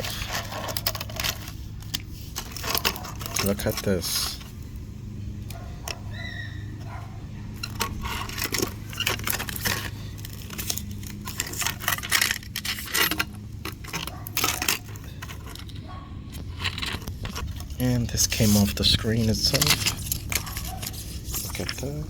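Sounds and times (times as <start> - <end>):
small parts clicking and rattling: 0.0 - 22.0
steady low hum: 0.0 - 22.0.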